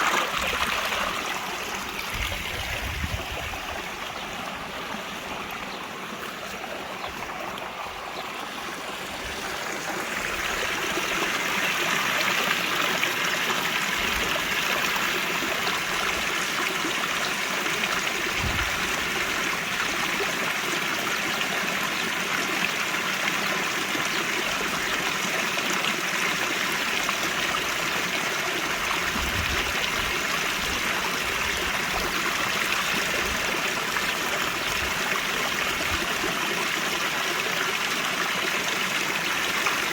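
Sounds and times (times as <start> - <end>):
water rushing and splashing: 0.0 - 23.4, 24.5 - 39.9.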